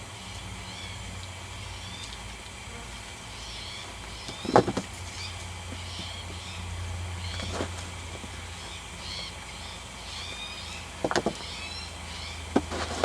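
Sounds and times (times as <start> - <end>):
steady low hum: 0.0 - 13.0
small birds chirping: 0.2 - 2.5, 3.2 - 13.0.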